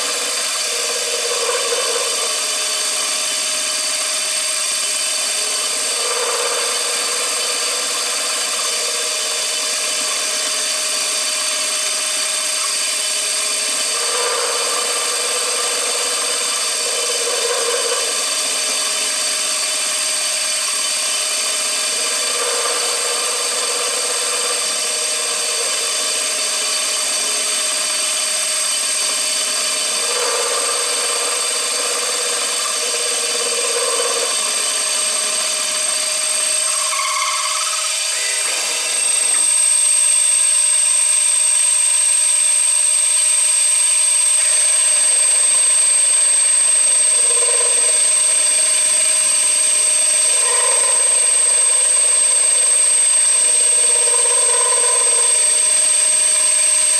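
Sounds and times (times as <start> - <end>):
cnc machine whine: 0.0 - 56.9
low machine tone: 0.0 - 56.9.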